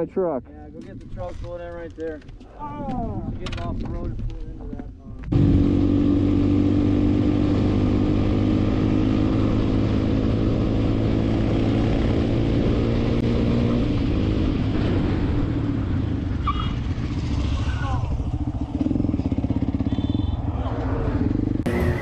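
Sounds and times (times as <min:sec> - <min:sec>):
motorcycle engine cruising: 0:03.2 - 0:22.0.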